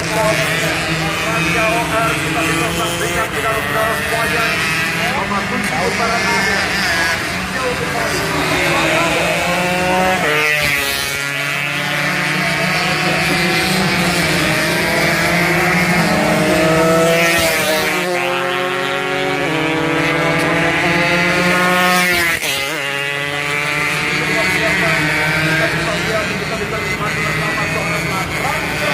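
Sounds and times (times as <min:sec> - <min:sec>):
racing motorcycle engines: 0:00.0 - 0:28.9.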